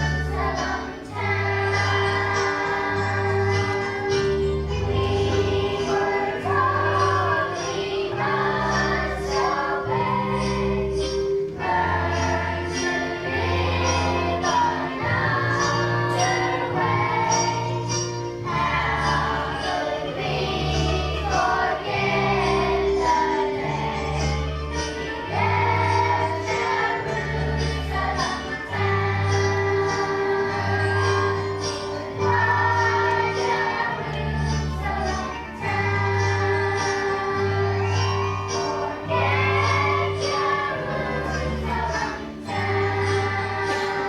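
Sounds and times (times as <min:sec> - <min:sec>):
children's choir singing: 0:00.0 - 0:44.0.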